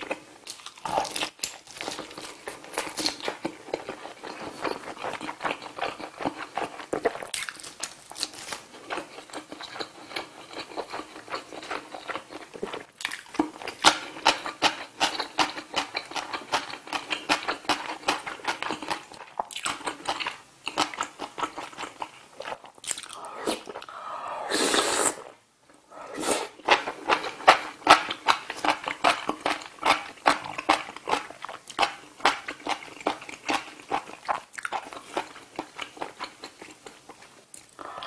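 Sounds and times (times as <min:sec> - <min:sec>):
close chewing with wet mouth clicks: 0:00.5 - 0:23.2, 0:26.7 - 0:38.0.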